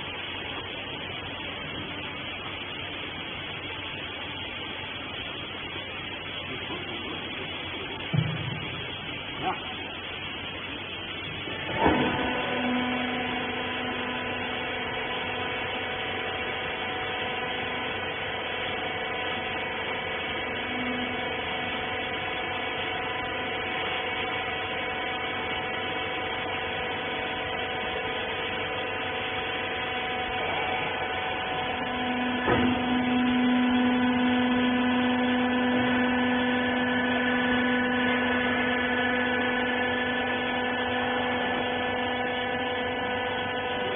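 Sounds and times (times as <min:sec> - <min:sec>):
electric pump motor humming: 0:00.0 - 0:43.9.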